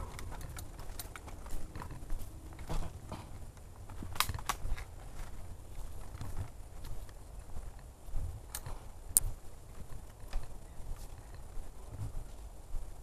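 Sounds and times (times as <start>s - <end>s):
footsteps crunching on dry leaves: 0.0s - 12.9s.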